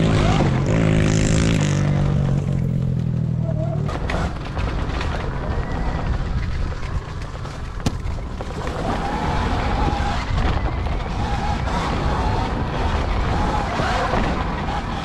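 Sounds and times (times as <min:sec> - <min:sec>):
pit bike engine running: 0:00.0 - 0:15.0.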